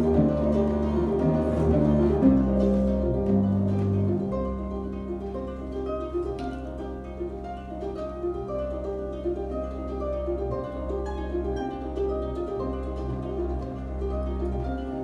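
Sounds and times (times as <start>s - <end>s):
harp plucking: 0.0s - 15.0s
low double bass notes: 0.0s - 15.0s.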